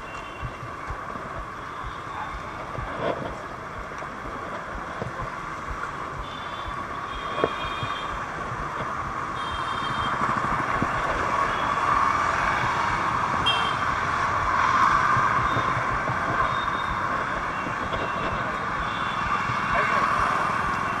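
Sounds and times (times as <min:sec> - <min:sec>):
road noise: 0:00.0 - 0:21.0
wind noise: 0:00.0 - 0:21.0.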